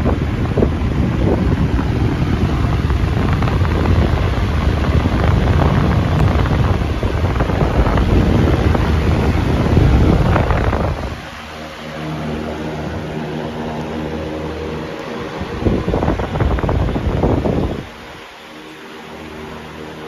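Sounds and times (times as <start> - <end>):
fan wind noise on microphone: 0.0 - 20.0.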